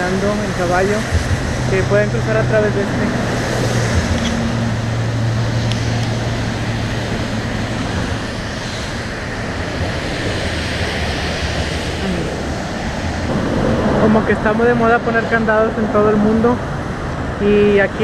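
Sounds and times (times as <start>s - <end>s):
traffic noise: 0.0s - 18.0s.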